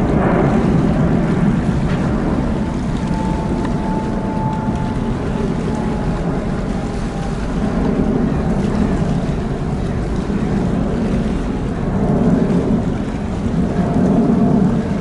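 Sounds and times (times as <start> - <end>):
jet engine roar: 0.0 - 15.0
wind noise on microphone: 0.0 - 15.0.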